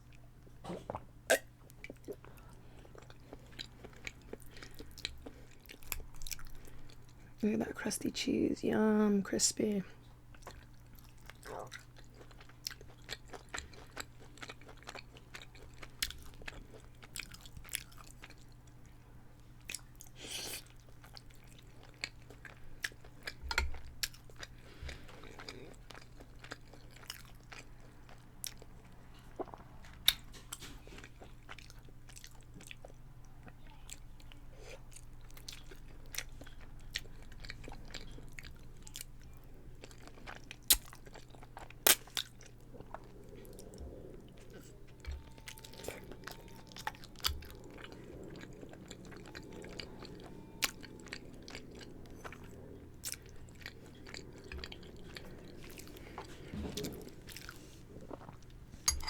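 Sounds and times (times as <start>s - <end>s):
chewing and crunching food: 0.0s - 8.5s, 10.0s - 59.0s
faint low hum: 0.0s - 59.0s.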